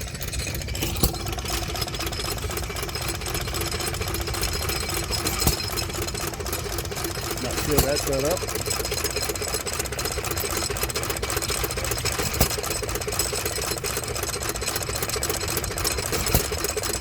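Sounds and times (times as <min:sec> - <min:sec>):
sharp clicks: 0:00.0 - 0:17.0
small gas engines clattering: 0:00.0 - 0:17.0.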